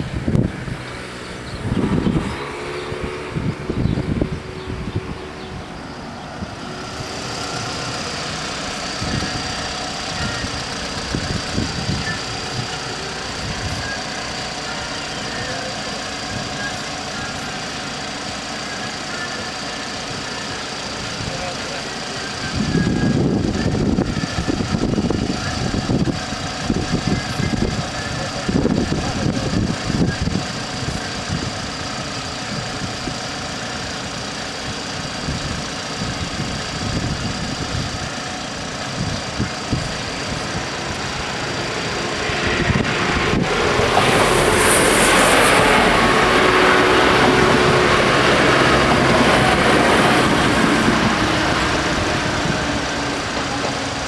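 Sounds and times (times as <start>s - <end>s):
diesel railcar passing: 0.0s - 54.0s.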